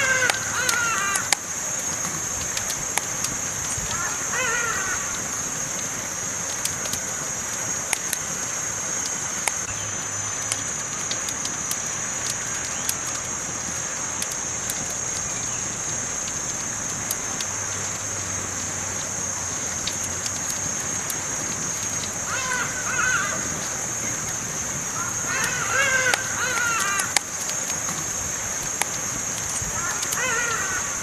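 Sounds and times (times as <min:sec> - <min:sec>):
constant high-pitched tone: 0:00.0 - 0:31.0
steady hiss: 0:00.0 - 0:31.0
wood crackling and popping: 0:00.0 - 0:31.0.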